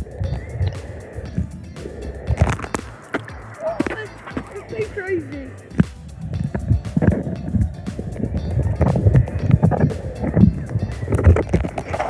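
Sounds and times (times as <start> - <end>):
background music: 0.0 - 12.0
low rumble: 0.0 - 12.0.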